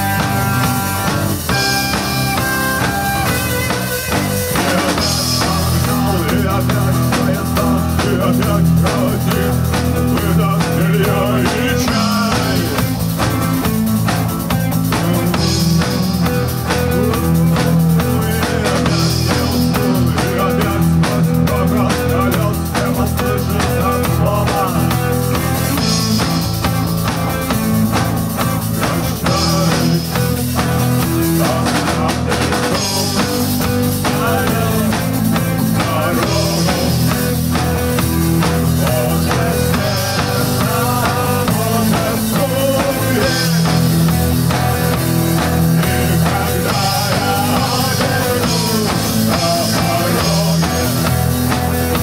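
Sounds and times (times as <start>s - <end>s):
drum-kit beat: 0.0s - 52.0s
rock band playing: 0.0s - 52.0s.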